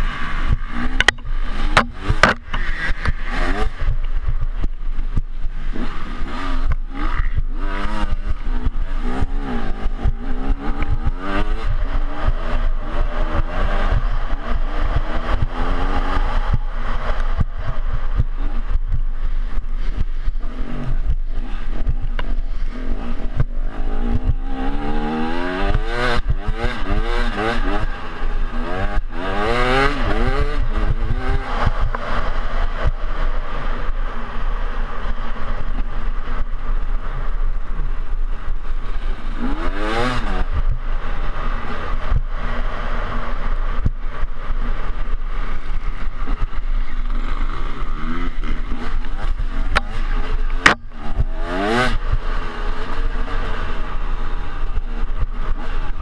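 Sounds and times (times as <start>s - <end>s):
dirt bike engine revving: 0.0s - 4.8s, 5.5s - 33.8s, 39.2s - 43.8s, 46.4s - 56.0s
wind rumble on microphone: 0.0s - 56.0s.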